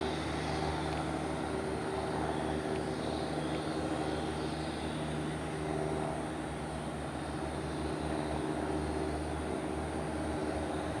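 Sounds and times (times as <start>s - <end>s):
propeller airplane engine running: 0.0s - 11.0s.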